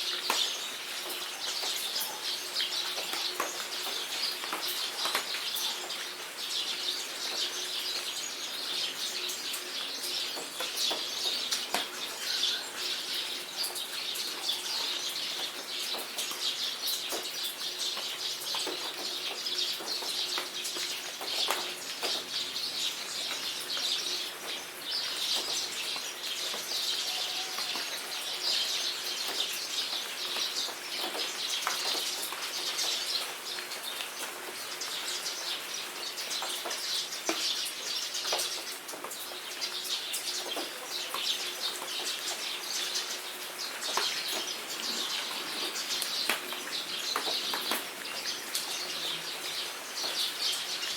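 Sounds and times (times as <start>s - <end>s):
birds singing and chirping: 0.0s - 50.9s
rain pattering: 0.0s - 50.9s.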